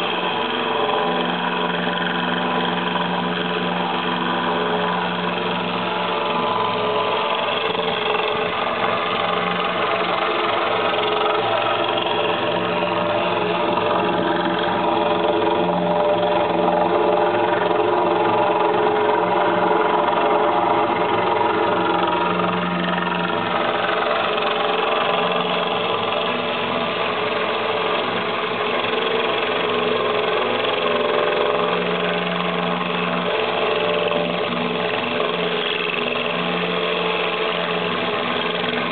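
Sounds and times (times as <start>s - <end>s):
drill grinding through glass: 0.0s - 38.9s.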